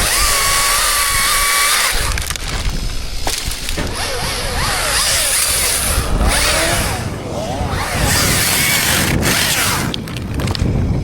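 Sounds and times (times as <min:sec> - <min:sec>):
wood cracking and splintering: 0:00.0 - 0:07.0, 0:07.8 - 0:10.8
chainsaw whine: 0:00.0 - 0:10.3.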